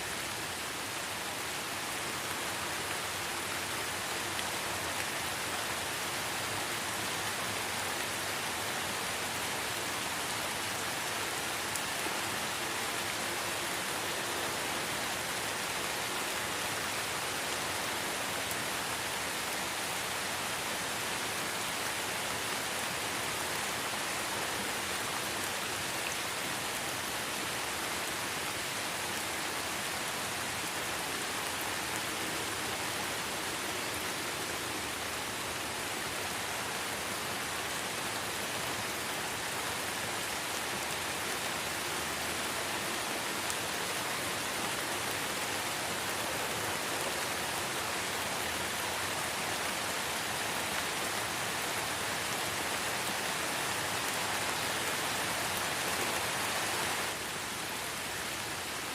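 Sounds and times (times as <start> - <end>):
light rain pattering: 0.0 - 58.9.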